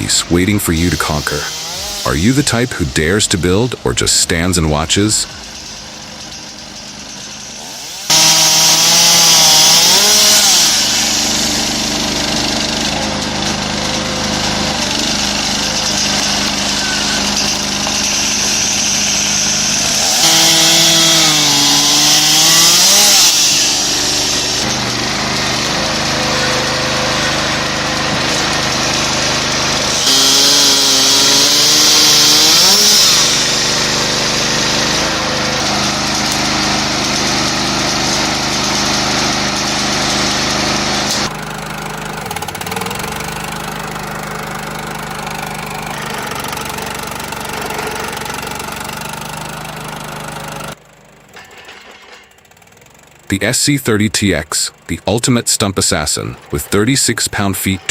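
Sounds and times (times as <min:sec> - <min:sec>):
chainsaw cutting logs: 0:00.0 - 0:57.8.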